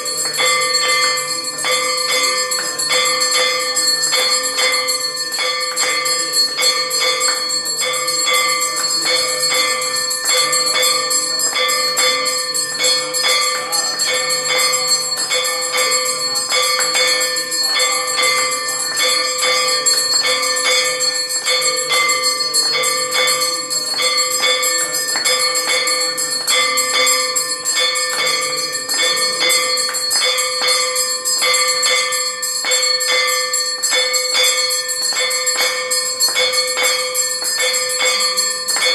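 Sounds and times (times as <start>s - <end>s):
temple bells ringing: 0.0s - 38.9s.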